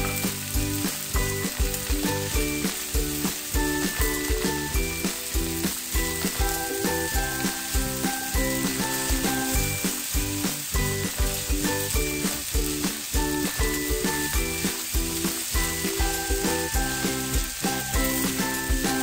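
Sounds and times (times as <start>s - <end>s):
background music with steady beat: 0.0s - 19.0s
rice sizzling in a skillet: 0.0s - 19.0s.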